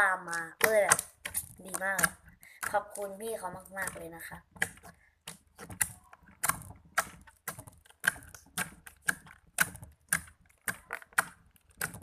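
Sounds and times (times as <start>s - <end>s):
slime squishing with wet pops: 0.0s - 12.0s.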